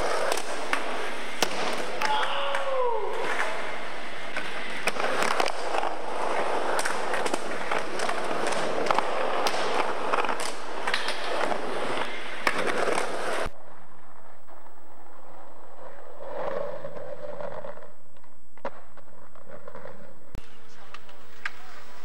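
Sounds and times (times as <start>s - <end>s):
skateboard wheels rolling: 0.0s - 22.0s.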